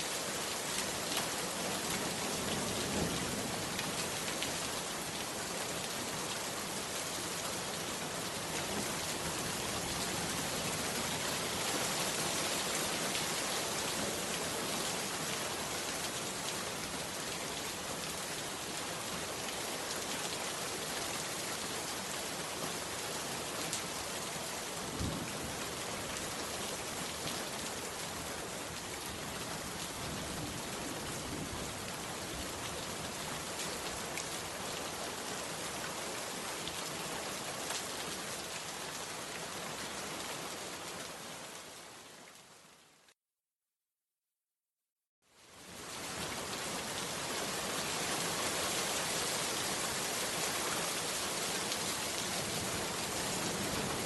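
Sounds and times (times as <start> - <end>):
heavy rain falling: 0.0 - 42.4, 45.6 - 54.0.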